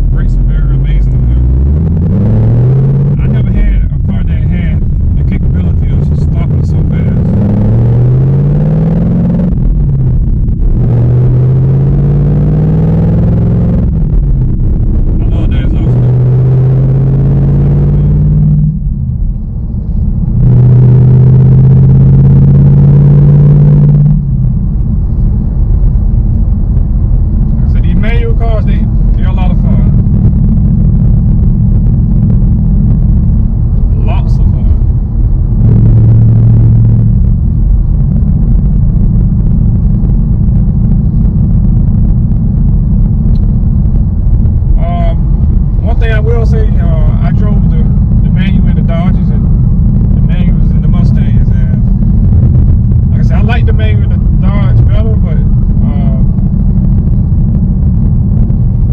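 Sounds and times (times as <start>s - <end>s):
car engine running: 0.0s - 58.9s
low drone: 0.0s - 58.9s.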